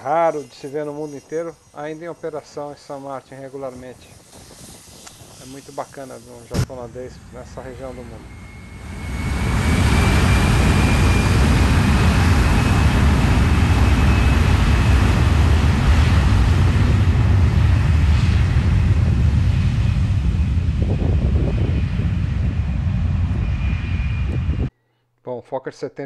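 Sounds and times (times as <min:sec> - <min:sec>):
high jet whine: 0:00.0 - 0:24.7
jet engines roaring at takeoff: 0:00.0 - 0:24.7.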